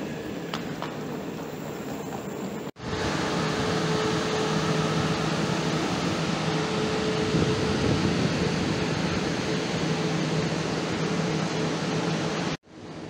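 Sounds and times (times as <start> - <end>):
electric train whirring hum: 0.0 - 13.0.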